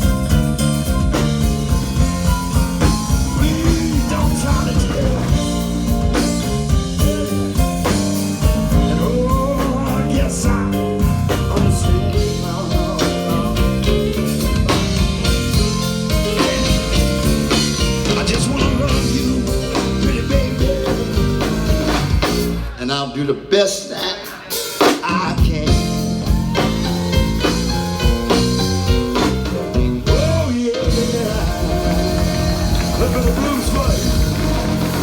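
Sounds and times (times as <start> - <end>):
drum kit beat: 0.0 - 22.8, 23.7 - 35.0
live blues band playing: 0.0 - 35.0.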